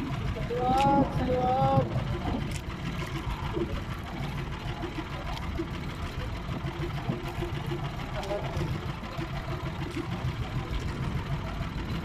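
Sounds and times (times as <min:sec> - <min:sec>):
small boat engine running: 0:00.0 - 0:12.0.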